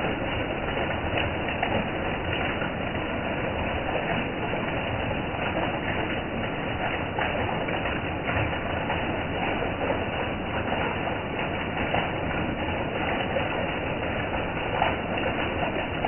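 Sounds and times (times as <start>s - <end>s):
heavy rain falling: 0.0s - 16.0s
water pouring into a drum: 0.0s - 16.0s.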